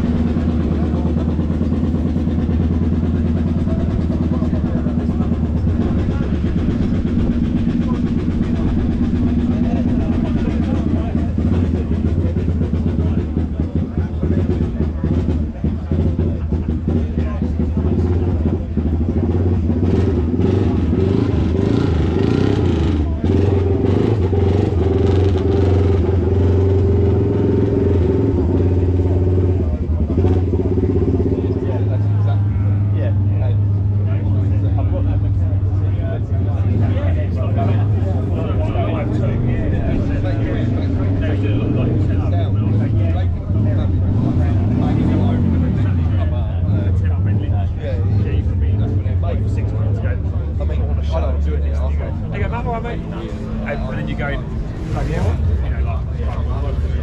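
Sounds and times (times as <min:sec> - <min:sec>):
engine idling: 0:00.0 - 0:57.0
people talking: 0:00.0 - 0:57.0.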